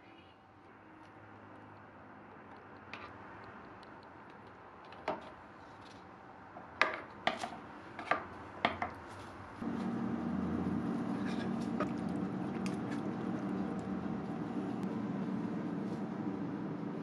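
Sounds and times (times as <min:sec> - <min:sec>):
low hum of pot cooking: 0:01.2 - 0:17.0.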